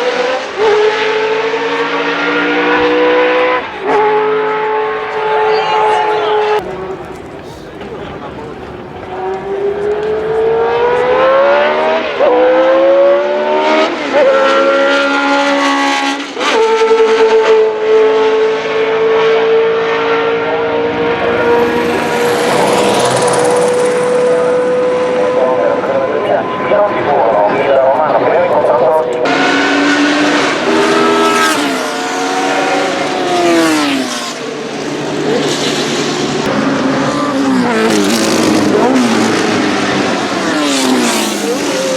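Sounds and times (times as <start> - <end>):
racing car engine accelerating: 0.0 - 41.9.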